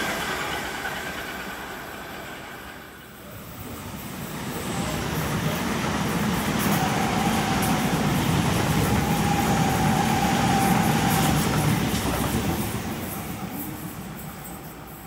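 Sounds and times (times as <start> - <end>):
train high whine: 0.0 - 15.0
train wheel and rail noise: 0.0 - 15.0.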